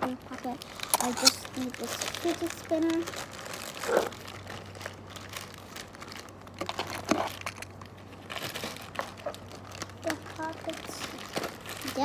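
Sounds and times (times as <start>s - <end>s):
bag crinkling and rustling: 0.0s - 12.0s.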